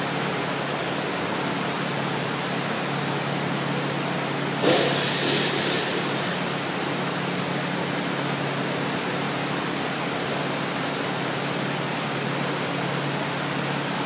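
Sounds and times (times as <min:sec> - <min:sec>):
fan rushing with low hum: 0:00.0 - 0:14.0.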